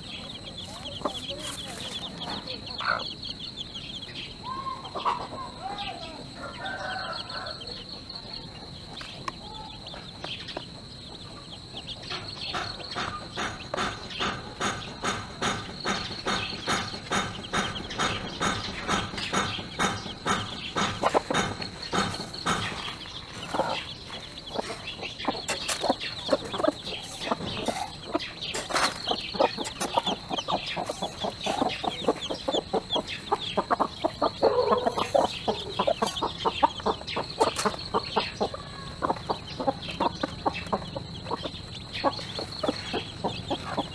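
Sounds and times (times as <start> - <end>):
hen clucking: 0.0 - 7.5, 11.6 - 43.9
chicks peeping: 0.0 - 43.9.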